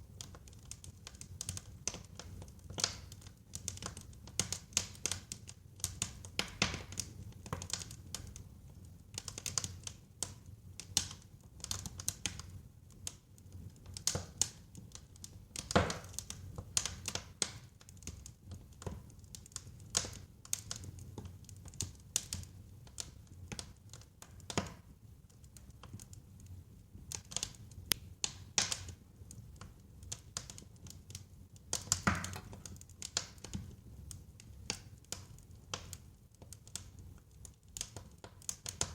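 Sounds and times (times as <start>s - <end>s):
low rumble of burning logs: 0.0s - 38.9s
wood fire crackling and popping: 0.0s - 38.9s.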